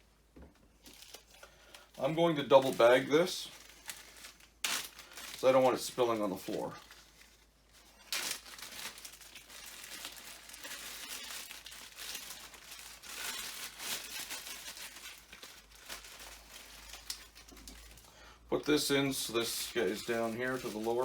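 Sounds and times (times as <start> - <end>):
plastic bags crinkling and rustling: 0.2 - 21.0.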